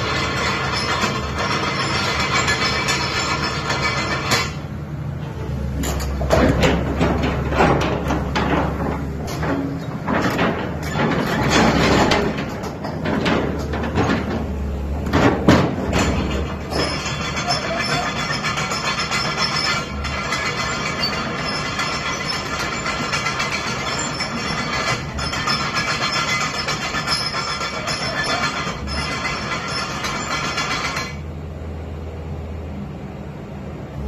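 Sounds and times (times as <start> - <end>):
excavator clanks and knocks: 0.0 - 31.3
excavator engine drone: 0.0 - 34.0.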